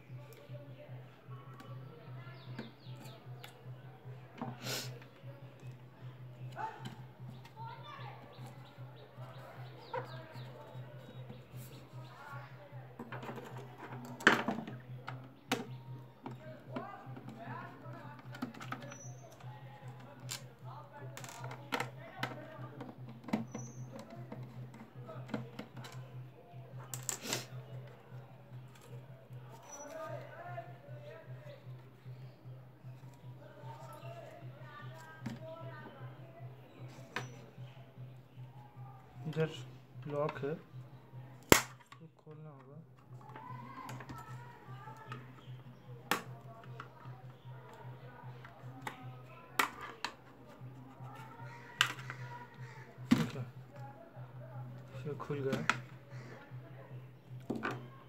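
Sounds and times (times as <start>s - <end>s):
faint background music: 0.0s - 58.0s.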